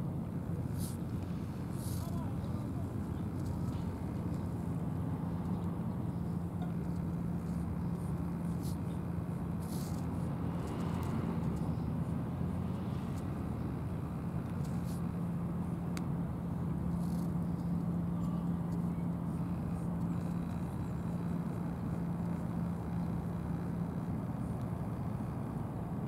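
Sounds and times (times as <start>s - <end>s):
constant low hum: 0.0s - 26.0s
low background rumble: 0.0s - 26.0s.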